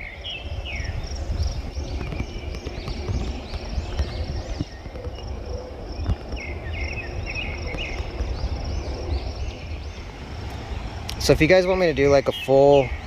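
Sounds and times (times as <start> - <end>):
mountain bike rumbling on dirt: 0.6 - 13.0.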